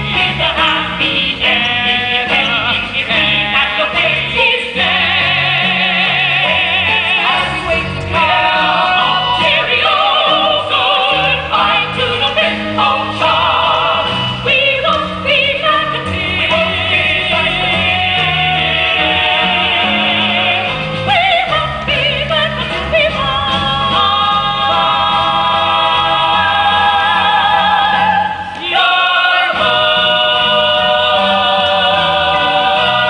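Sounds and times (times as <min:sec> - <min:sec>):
instrumental accompaniment with bass: 0:00.0 - 0:33.0
voices singing with vibrato: 0:00.0 - 0:33.0.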